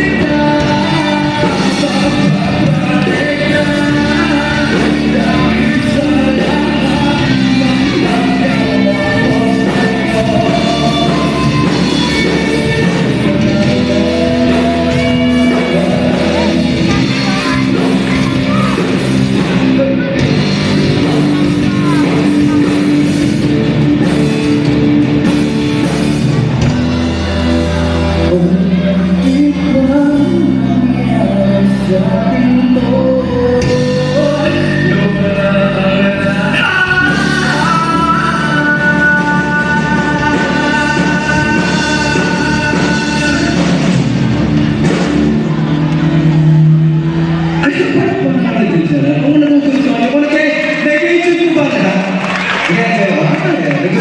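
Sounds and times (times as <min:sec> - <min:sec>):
person singing: 0:00.0 - 0:51.9
live rock band playing: 0:00.0 - 0:54.0.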